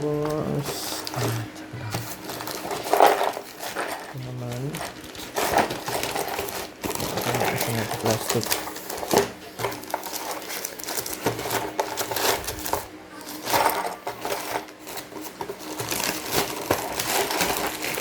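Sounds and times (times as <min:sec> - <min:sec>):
plastic parts clicking and rattling: 0:00.0 - 0:18.0.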